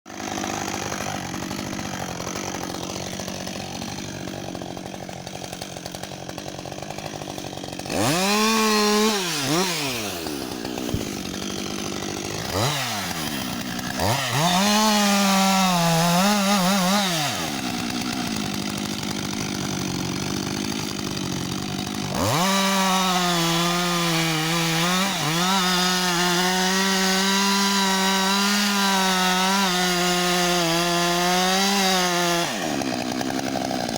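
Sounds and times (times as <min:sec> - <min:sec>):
chainsaw idling and revving: 0:00.1 - 0:33.9.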